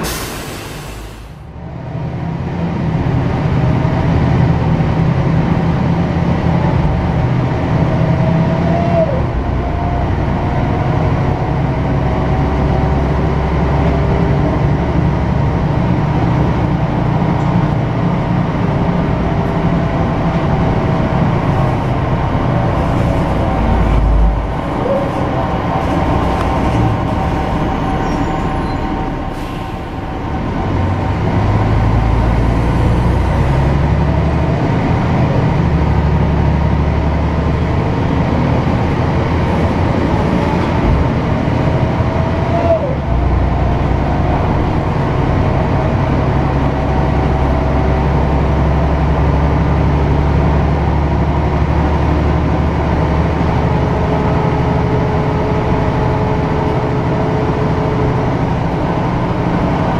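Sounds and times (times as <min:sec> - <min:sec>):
bus engine changing gears: 0:00.0 - 0:59.9
road noise: 0:00.0 - 0:59.9.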